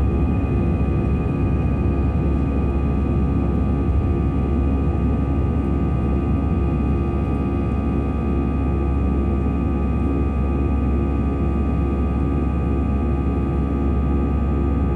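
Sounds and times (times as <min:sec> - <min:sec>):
jet engines low rumble: 0:00.0 - 0:14.9.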